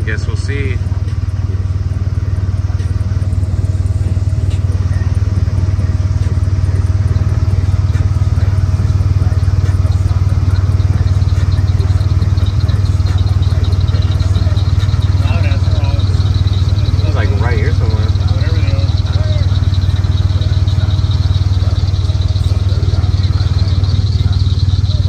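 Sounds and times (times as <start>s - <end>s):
utility vehicle engine idling: 0.0s - 25.0s.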